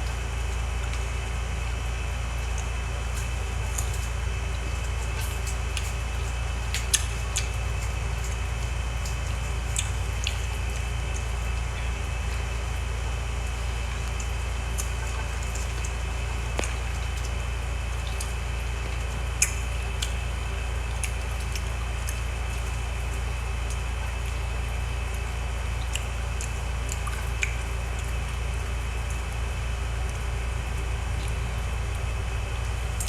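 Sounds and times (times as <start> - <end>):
low hum: 0.0 - 33.0
person chewing with wet smacks: 1.7 - 33.0.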